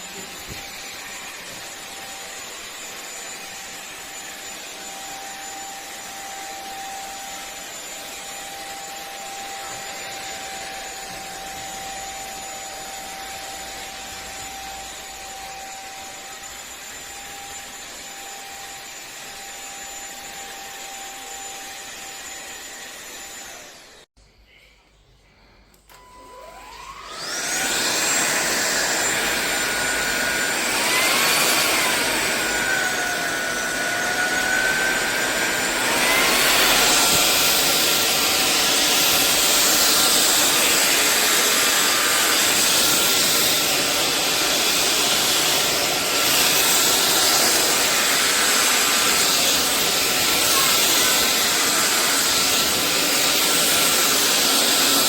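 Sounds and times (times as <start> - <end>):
stick vacuum motor whine: 0.0 - 24.1, 25.7 - 55.0.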